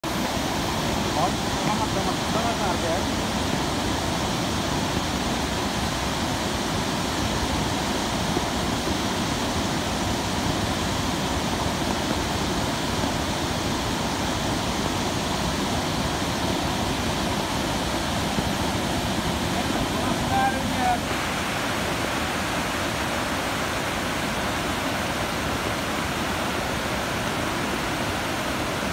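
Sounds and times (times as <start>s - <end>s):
flood water rushing over boulders: 0.0s - 28.9s.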